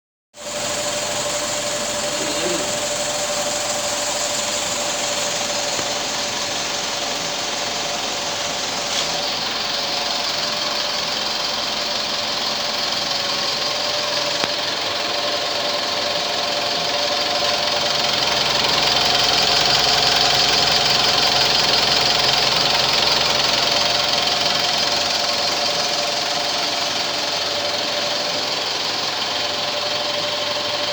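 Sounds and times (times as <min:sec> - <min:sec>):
diesel engine clattering: 0:00.4 - 0:30.9
steady whine: 0:00.4 - 0:30.9.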